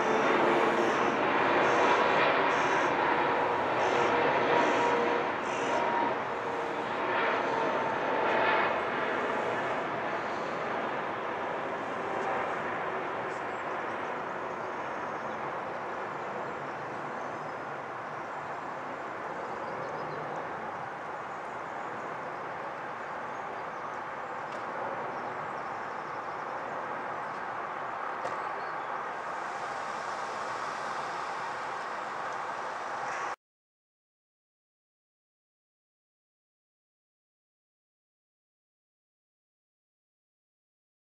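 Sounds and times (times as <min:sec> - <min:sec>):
jet airliner passing overhead: 0:00.0 - 0:33.4.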